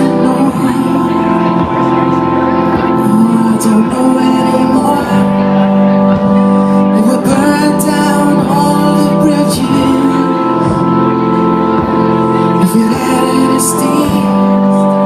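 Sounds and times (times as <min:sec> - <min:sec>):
keyboard chords: 0:00.0 - 0:15.0
low bass note: 0:00.0 - 0:15.0
person singing: 0:00.0 - 0:15.0.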